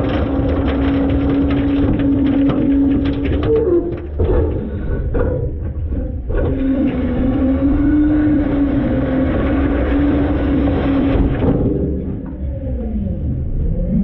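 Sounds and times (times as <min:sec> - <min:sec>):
garbage truck engine rumble: 0:00.0 - 0:14.0.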